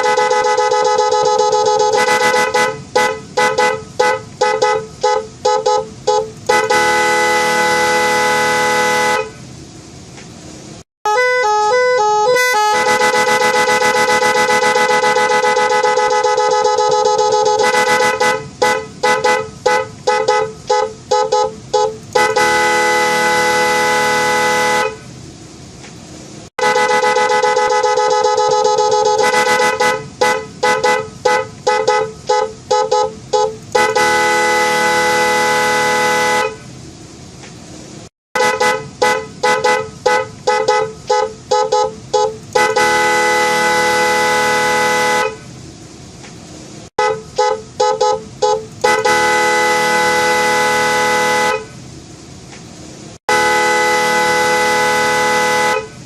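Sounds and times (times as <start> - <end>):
electric car horn beeping: 0.0 - 9.4, 11.1 - 25.1, 26.6 - 36.7, 38.4 - 45.5, 47.0 - 51.8, 53.3 - 56.0.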